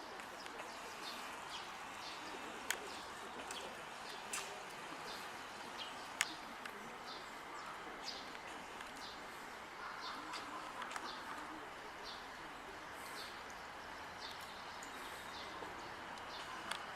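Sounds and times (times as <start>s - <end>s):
faint small birds chirping: 0.0s - 16.9s.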